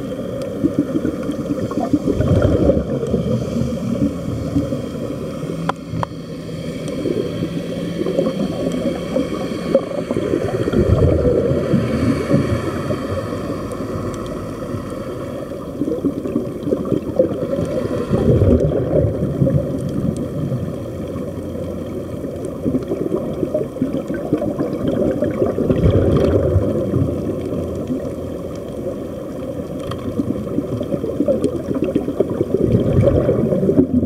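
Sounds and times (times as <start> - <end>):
faint steady hum: 0.0 - 34.0
underwater air bubbling: 0.0 - 34.0.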